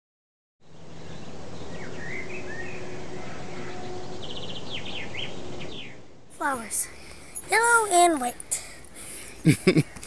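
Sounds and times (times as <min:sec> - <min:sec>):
birds chirping: 0:00.7 - 0:10.0.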